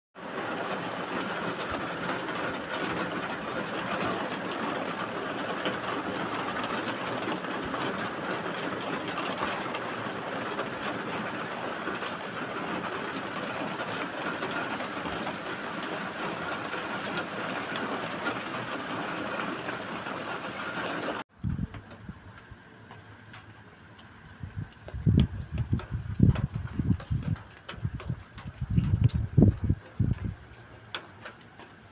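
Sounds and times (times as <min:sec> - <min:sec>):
steady rain falling: 0:00.2 - 0:31.9.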